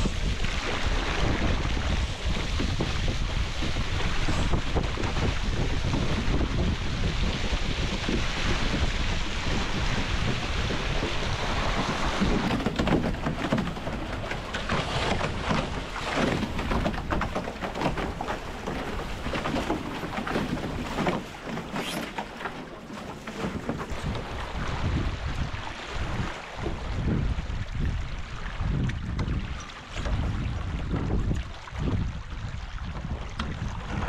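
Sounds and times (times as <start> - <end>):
water splashing along hulls: 0.0 - 34.0
wind buffeting microphone: 0.0 - 34.0.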